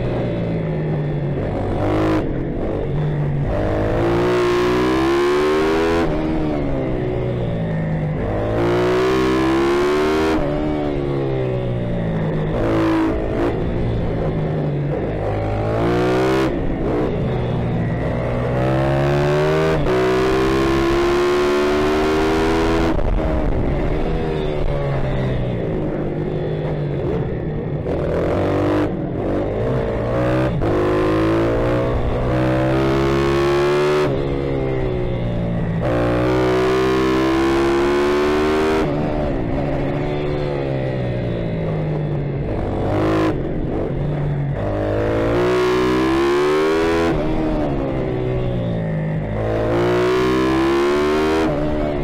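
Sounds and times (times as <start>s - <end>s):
motorbike engine revving: 0.0s - 52.0s.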